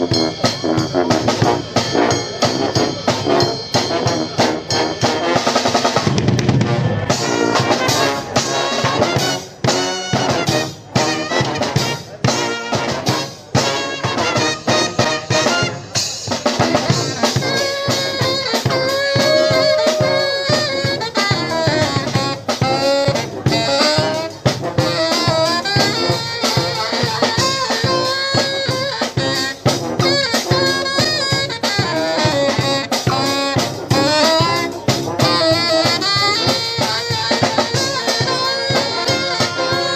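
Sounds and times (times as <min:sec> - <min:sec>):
saxophones: 0:00.0 - 0:06.2, 0:07.1 - 0:39.9
drum kit steady beat: 0:00.0 - 0:39.9
trombones: 0:00.0 - 0:39.9
trumpets: 0:00.0 - 0:39.9.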